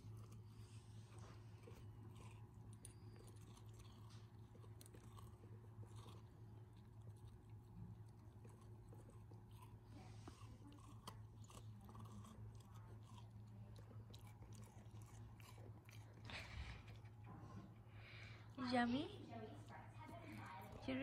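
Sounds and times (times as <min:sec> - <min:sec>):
puppy crunching and chewing: 0:00.0 - 0:21.0.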